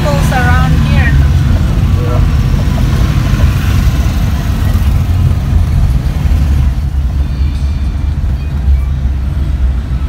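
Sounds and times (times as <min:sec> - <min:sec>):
motorcycle engine rumble: 0:00.0 - 0:10.0
road noise: 0:00.0 - 0:10.0.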